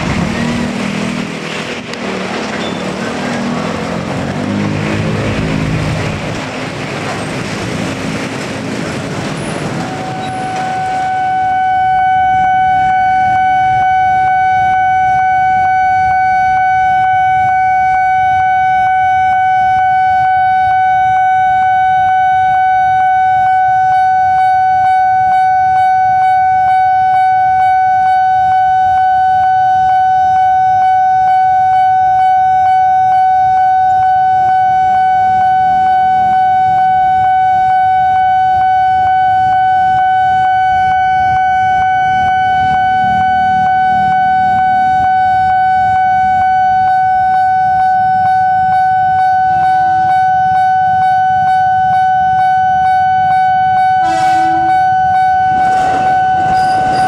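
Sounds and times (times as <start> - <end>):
level crossing warning bell: 9.4 - 57.0.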